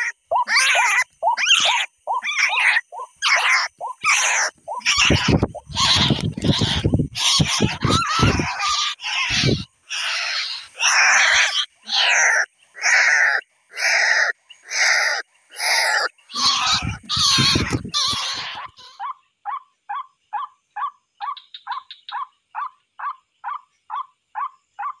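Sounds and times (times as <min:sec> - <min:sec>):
bird calling: 0:00.0 - 0:25.0.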